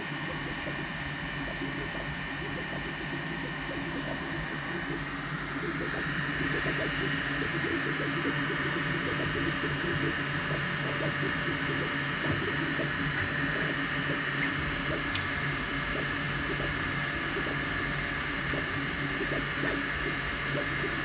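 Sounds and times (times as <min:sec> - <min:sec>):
printer motors and fans whirring: 0:00.0 - 0:21.0.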